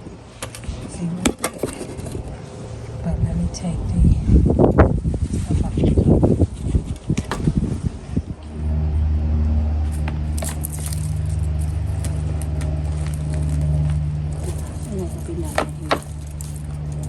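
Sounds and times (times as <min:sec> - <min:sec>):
rustling and scraping soil: 0:00.0 - 0:03.0, 0:04.1 - 0:17.0
low engine hum: 0:00.0 - 0:17.0.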